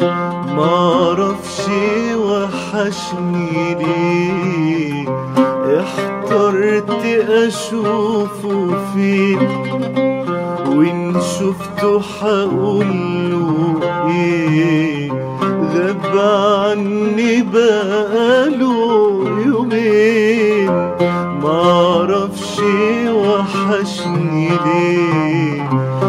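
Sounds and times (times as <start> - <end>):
man singing ornamented melody: 0.0 - 26.0
plucked oud: 0.0 - 26.0.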